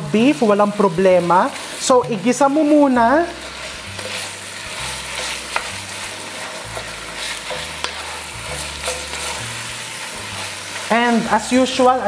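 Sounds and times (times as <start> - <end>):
meat sizzling in a pot: 0.0 - 12.0
wooden spoon stirring: 1.1 - 11.8.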